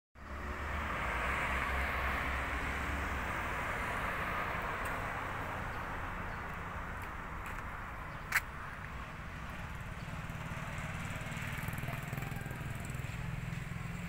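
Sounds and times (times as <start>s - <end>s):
vehicle passing on road: 0.2s - 14.0s.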